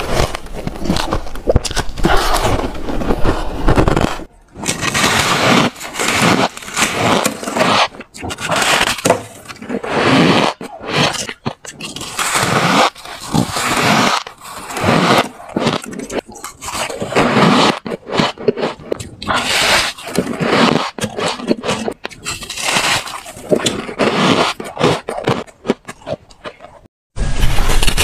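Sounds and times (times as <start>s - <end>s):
frost being crunched and chewed: 3.7s - 26.8s.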